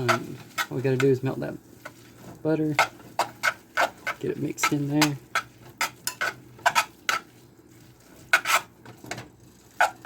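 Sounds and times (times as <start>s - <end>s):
utensil scraping in a pot: 0.0s - 10.0s.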